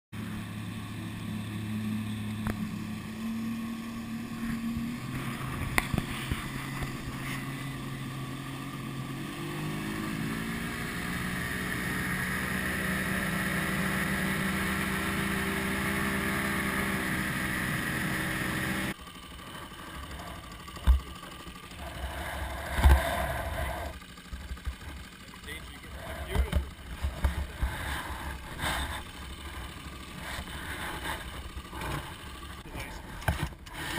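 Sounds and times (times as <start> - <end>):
outboard motor: 0.1 - 33.9
boat wake rushing: 0.2 - 19.0, 19.6 - 33.9.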